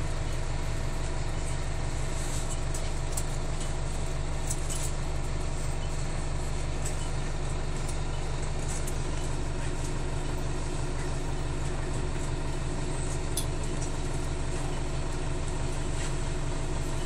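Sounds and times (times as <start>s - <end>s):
bus cabin low drone: 0.0s - 17.0s.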